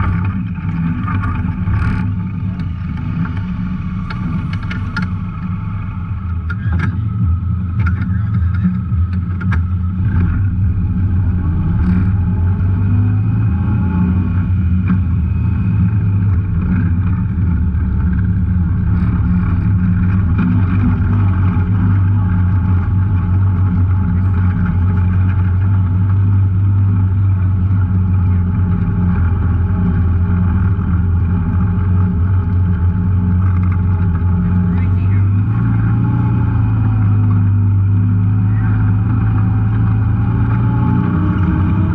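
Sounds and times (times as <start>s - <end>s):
off-road vehicle engine droning: 0.0s - 41.9s.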